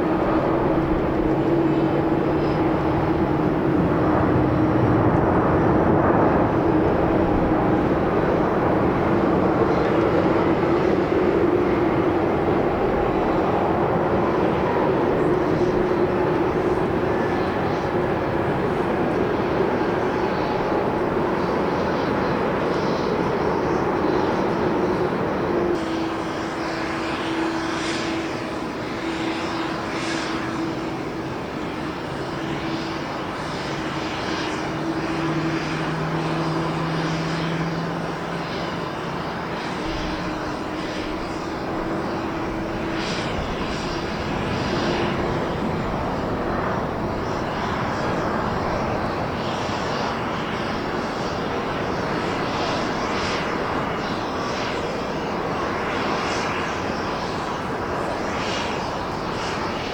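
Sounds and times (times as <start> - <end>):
continuous rushing noise: 0.0 - 59.9
jet engines humming: 0.0 - 59.9.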